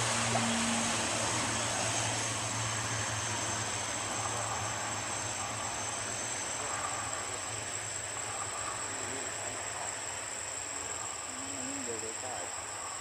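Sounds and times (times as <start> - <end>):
airliner jet noise: 0.0 - 13.0
high-pitched insect buzz: 0.0 - 13.0.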